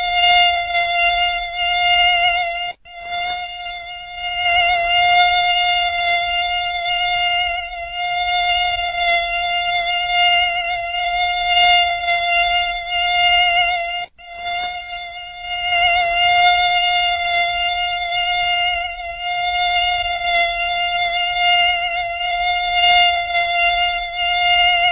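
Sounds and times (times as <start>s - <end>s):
mosquito wingbeat whine: 0.0s - 24.9s.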